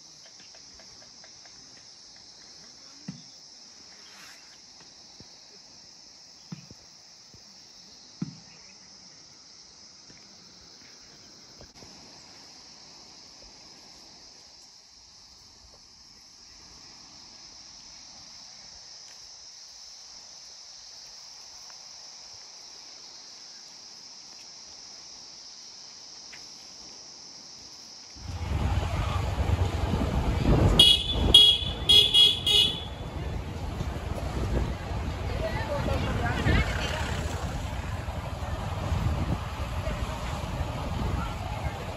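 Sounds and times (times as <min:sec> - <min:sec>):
insects high-pitched drone: 0:00.0 - 0:41.9.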